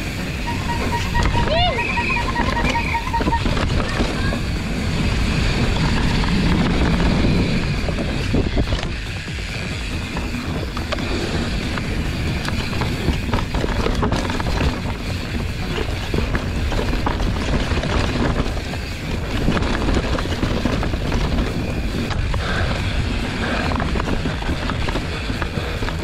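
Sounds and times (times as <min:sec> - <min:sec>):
bike chain and frame rattling: 0:00.0 - 0:26.0
bike tyres on dirt: 0:00.0 - 0:26.0
wind on microphone: 0:00.0 - 0:26.0.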